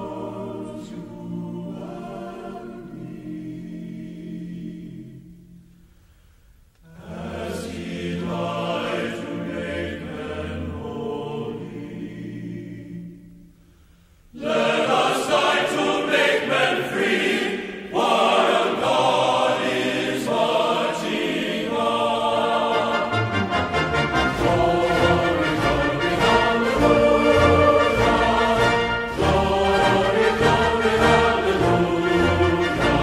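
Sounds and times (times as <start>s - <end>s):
choir singing: 0.0s - 5.6s, 6.8s - 13.6s, 14.3s - 33.0s.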